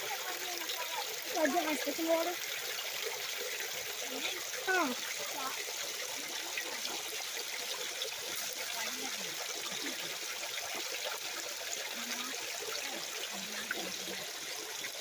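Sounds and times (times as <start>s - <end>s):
creek waterfall trickling over rocks: 0.0s - 15.0s.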